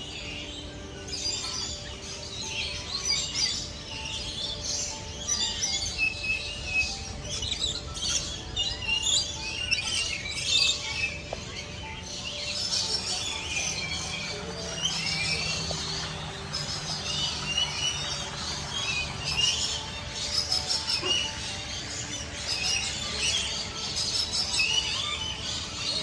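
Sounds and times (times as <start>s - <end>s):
background music: 0.0s - 26.0s
birds chirping: 0.0s - 26.0s.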